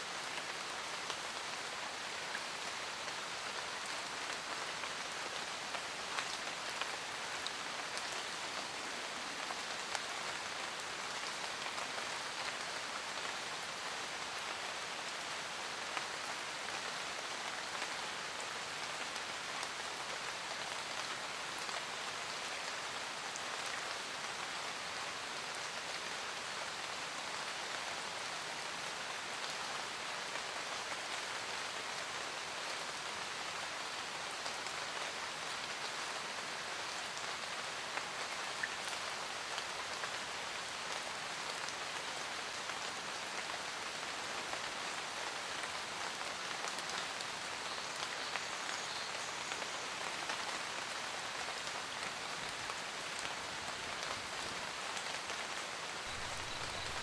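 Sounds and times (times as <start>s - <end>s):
rain pattering on a roof: 0.0s - 57.0s.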